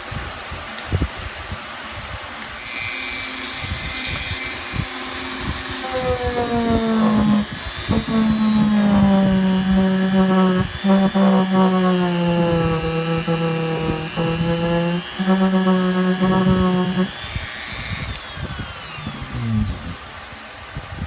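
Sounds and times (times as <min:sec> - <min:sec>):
rotary tool whining: 0:02.6 - 0:20.5.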